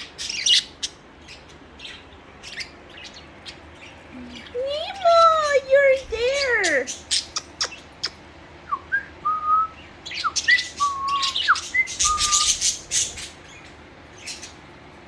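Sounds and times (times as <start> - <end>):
budgerigars chirping and warbling: 0.0 - 8.4, 9.7 - 14.9.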